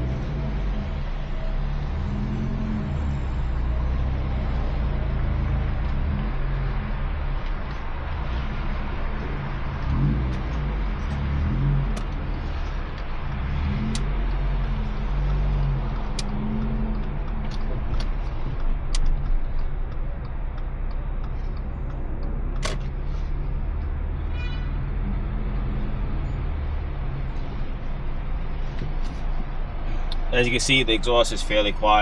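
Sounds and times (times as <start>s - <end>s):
car exhaust drone: 0.0s - 32.0s.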